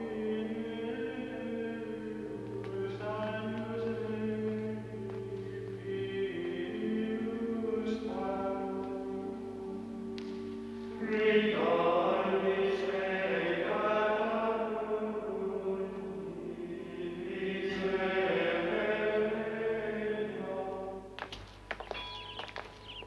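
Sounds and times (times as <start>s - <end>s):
choir chanting: 0.0s - 10.0s, 10.9s - 21.2s.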